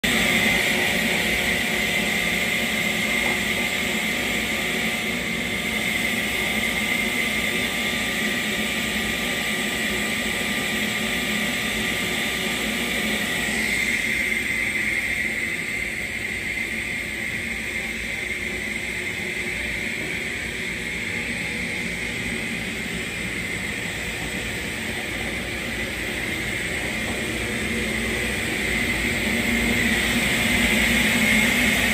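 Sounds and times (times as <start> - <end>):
high whine: 0.0 - 31.9
workshop machinery humming: 0.0 - 31.9.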